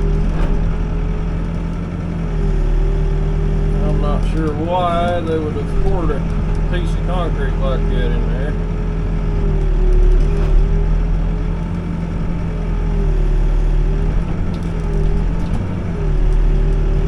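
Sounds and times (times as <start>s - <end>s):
diesel engine with wavering whine: 0.0s - 17.0s.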